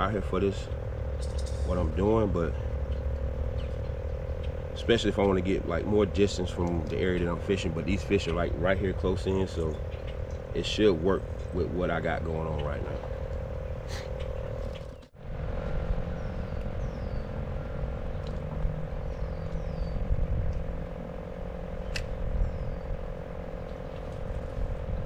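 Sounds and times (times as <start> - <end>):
frogs trilling: 0.0 - 15.1, 16.1 - 25.0.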